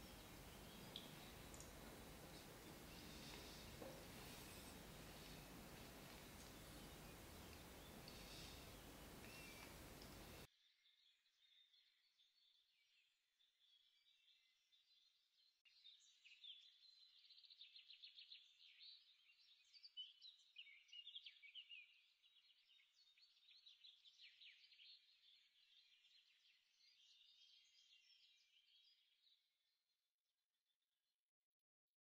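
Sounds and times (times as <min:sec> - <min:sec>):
faint birdsong: 0:00.0 - 0:29.4.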